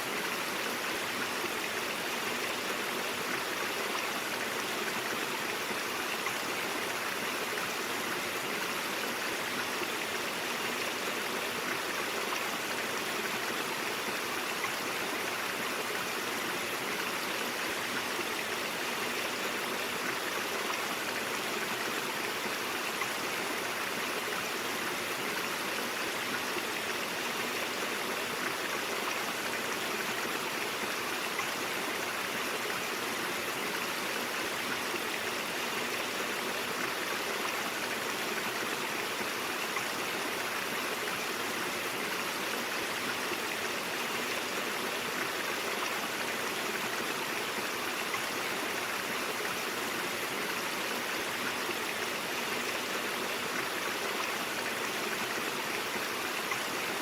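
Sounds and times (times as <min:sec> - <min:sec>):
brook flowing: 0:00.0 - 0:57.0.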